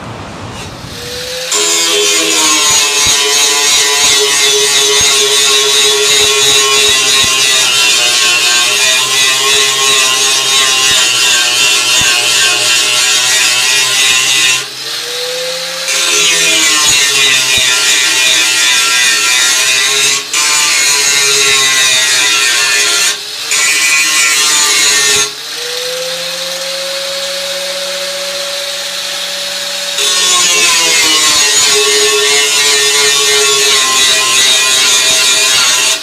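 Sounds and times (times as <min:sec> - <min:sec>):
angle grinder cutting steel: 0:00.6 - 0:36.0.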